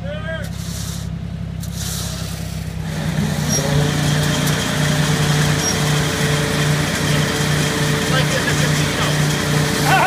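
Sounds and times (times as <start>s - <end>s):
machine hum with pulsing drone: 0.5s - 10.0s.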